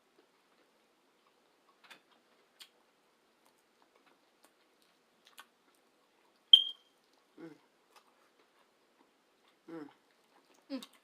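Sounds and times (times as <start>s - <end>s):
faint eating clicks: 0.0s - 11.0s.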